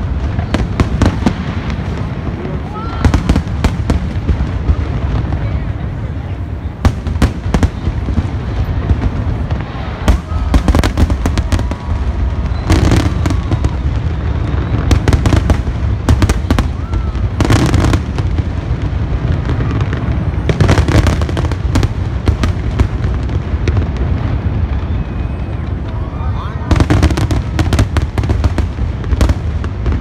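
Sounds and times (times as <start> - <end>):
fireworks bursting with bangs: 0.0 - 30.0
fireworks crackling: 0.0 - 30.0.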